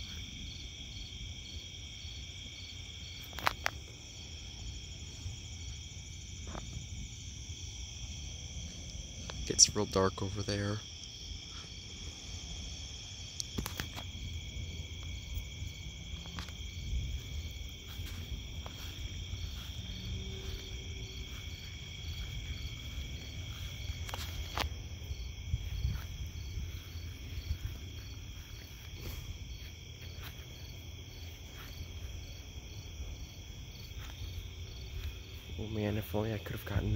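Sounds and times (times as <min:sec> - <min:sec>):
insects trilling: 0:00.0 - 0:36.9
pulsing insect chirp: 0:00.0 - 0:36.9.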